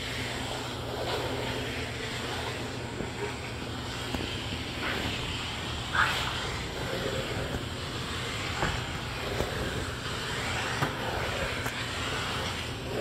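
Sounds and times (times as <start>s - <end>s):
steam cleaner hissing: 0.0s - 13.0s.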